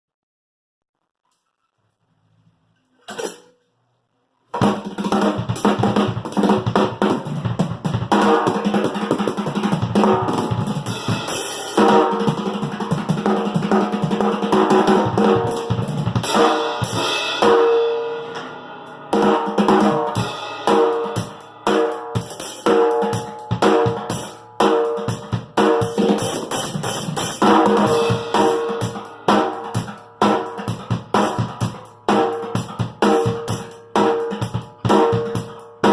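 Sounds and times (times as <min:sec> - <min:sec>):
music with drum kit: 0:04.6 - 0:35.9.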